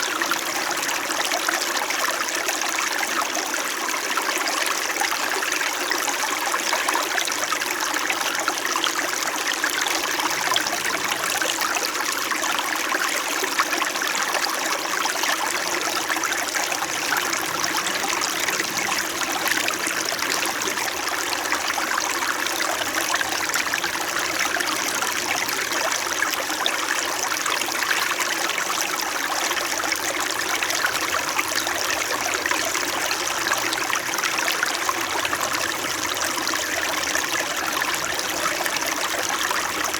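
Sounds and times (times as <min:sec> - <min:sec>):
stream burbling over rocks: 0:00.0 - 0:39.9.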